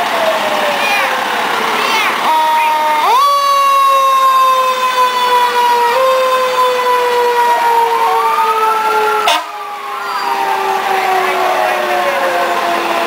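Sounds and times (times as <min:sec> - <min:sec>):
fire engine siren wailing: 0:00.0 - 0:13.0
second siren rising and falling: 0:00.0 - 0:13.0.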